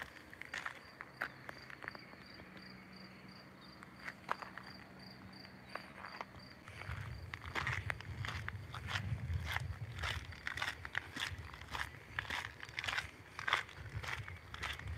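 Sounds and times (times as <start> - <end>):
footsteps walking: 0.0 - 2.6, 3.8 - 14.9
cricket chirping: 0.0 - 12.4.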